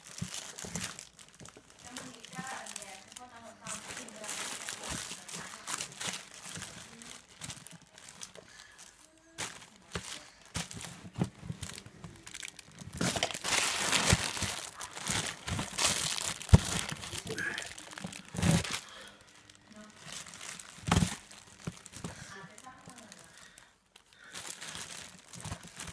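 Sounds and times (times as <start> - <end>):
plastic bags crinkling: 0.0 - 25.9.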